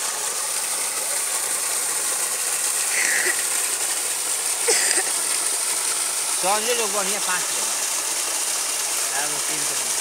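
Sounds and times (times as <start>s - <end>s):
water gushing from a pipe: 0.0s - 10.0s.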